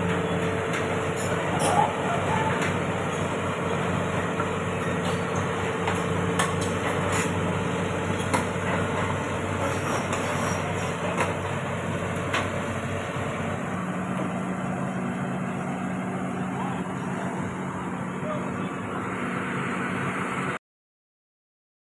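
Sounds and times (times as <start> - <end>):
diesel engine running: 0.0 - 20.6.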